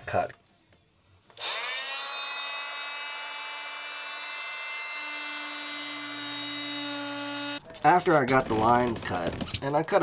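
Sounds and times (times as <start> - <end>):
oscillating multi-tool cutting plywood: 1.4 - 9.6.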